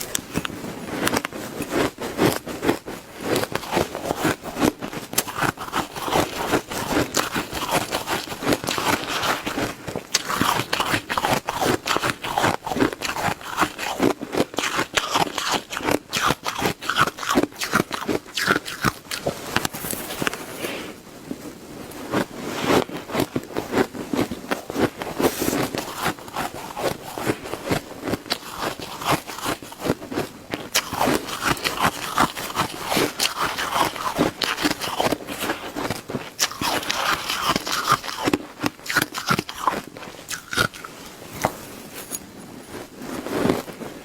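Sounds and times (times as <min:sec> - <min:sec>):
ice being chewed: 0:00.0 - 0:20.6, 0:21.9 - 0:43.9.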